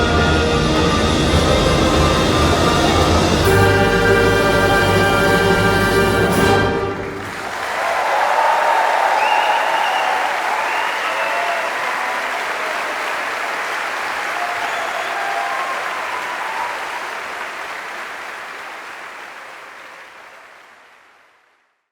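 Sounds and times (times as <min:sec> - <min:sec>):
audience applauding: 0:00.0 - 0:21.8.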